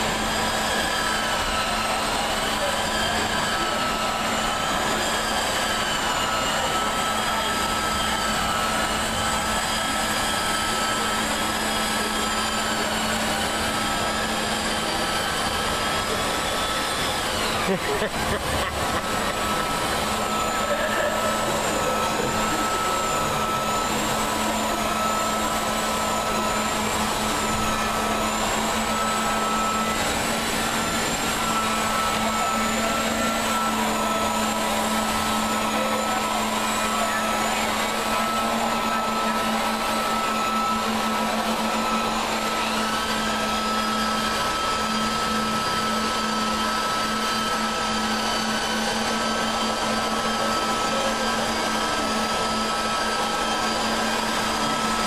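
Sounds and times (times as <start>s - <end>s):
faint wavering high whine: 0.0s - 55.0s
low mechanical hum: 0.0s - 55.0s.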